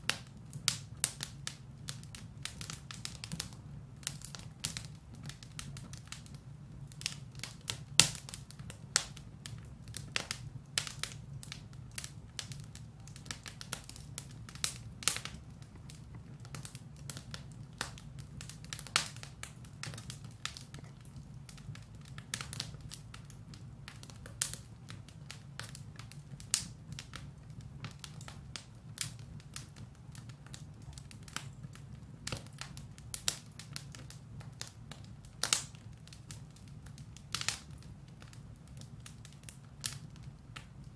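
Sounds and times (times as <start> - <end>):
firewood crackling and popping: 0.0 - 40.9
low rumble of fire: 0.0 - 40.9.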